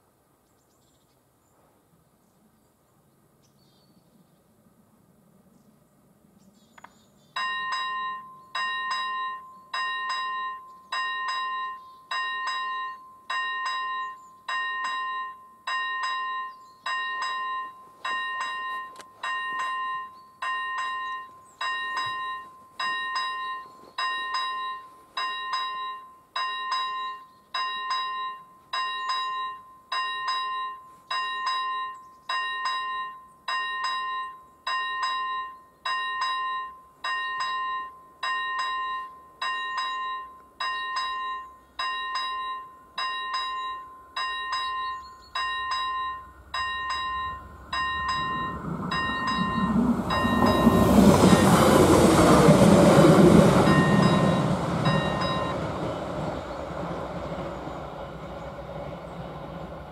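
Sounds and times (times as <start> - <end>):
level crossing warning bell ringing: 7.4 - 59.9.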